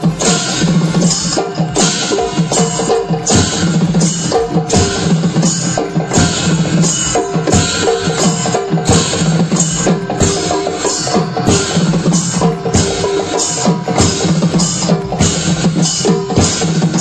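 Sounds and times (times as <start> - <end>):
folk drums beaten fast: 0.0 - 17.0.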